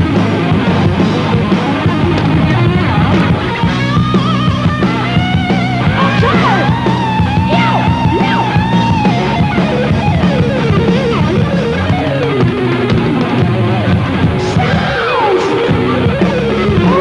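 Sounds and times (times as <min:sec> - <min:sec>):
bass and drums: 0:00.0 - 0:17.0
electric guitar lead: 0:00.0 - 0:17.0.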